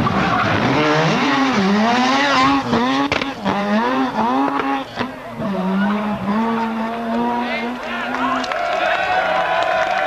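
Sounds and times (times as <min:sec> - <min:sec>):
rotary engine revving hard: 0:00.0 - 0:08.4.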